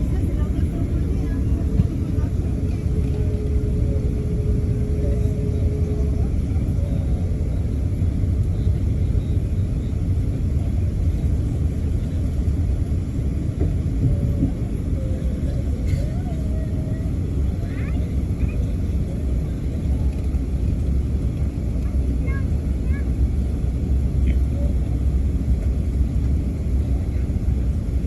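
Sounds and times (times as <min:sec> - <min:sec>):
aircraft cabin rumble: 0:00.0 - 0:28.0.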